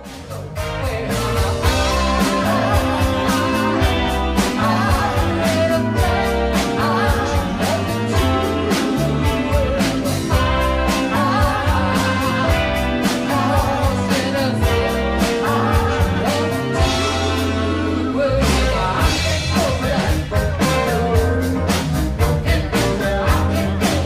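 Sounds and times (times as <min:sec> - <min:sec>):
rock music with singer: 0:00.0 - 0:24.0.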